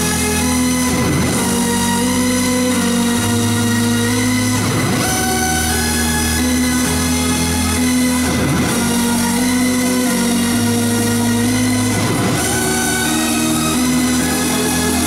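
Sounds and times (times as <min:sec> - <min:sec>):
trance music over sound system: 0:00.0 - 0:15.0.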